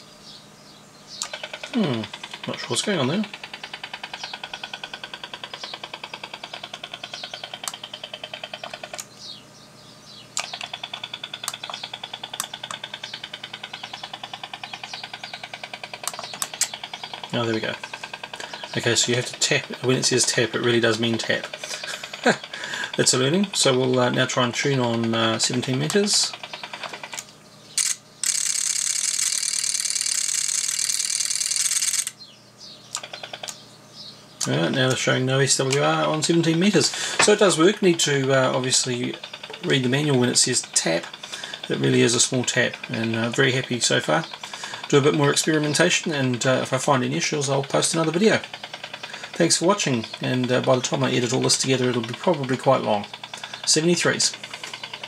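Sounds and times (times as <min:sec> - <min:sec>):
radar interference pulsing buzz: 0:00.0 - 0:55.0
antenna tuner relays chattering: 0:01.2 - 0:09.3, 0:10.2 - 0:32.2, 0:32.9 - 0:33.6, 0:34.3 - 0:55.0
sharp clicks: 0:01.2 - 0:09.3, 0:10.3 - 0:32.2, 0:32.9 - 0:33.6, 0:34.4 - 0:55.0.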